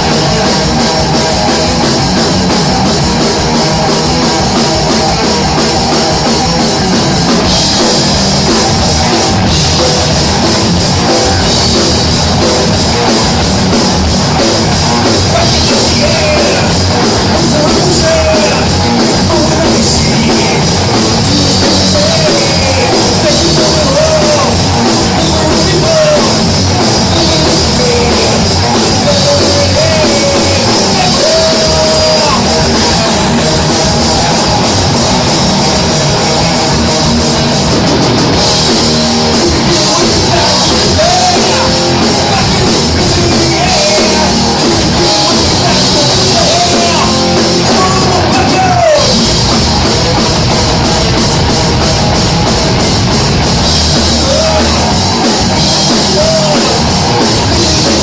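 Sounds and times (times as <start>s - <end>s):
drum kit: 0.0s - 58.0s
rock band playing heavy metal: 0.0s - 58.0s.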